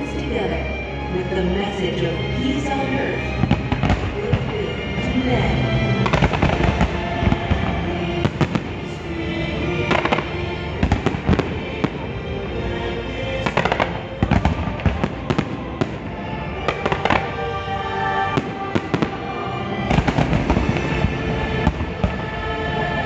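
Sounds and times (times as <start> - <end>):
orchestral music: 0.0 - 23.0
fireworks bursting and crackling: 2.6 - 12.3, 13.3 - 22.4.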